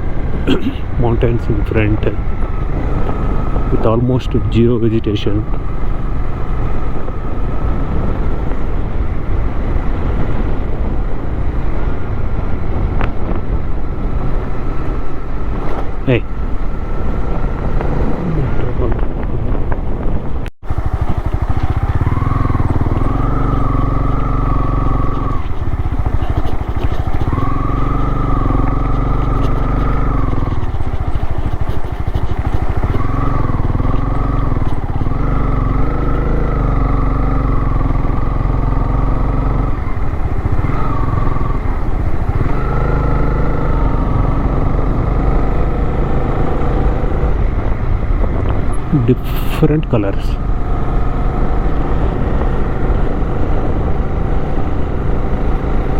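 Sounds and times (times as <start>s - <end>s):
motorcycle engine revving: 0.0s - 55.9s
wind and road noise: 0.0s - 55.9s.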